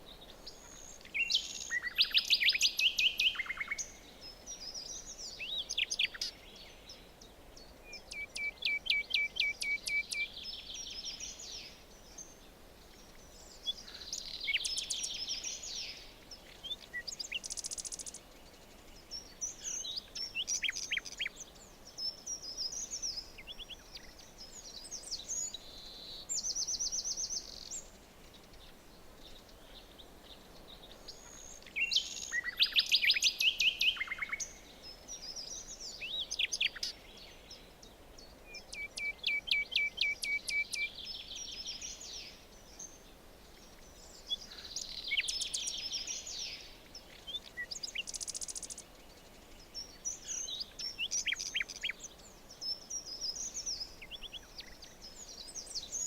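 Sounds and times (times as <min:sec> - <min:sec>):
faint background hiss: 0:00.0 - 0:56.0
songbirds singing and chirping: 0:00.0 - 0:56.0.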